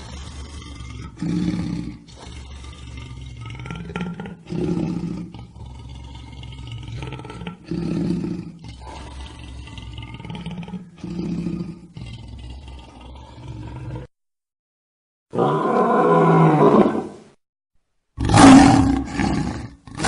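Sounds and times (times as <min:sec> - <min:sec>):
lion roaring: 0:00.0 - 0:14.1, 0:15.3 - 0:17.2, 0:18.2 - 0:20.0.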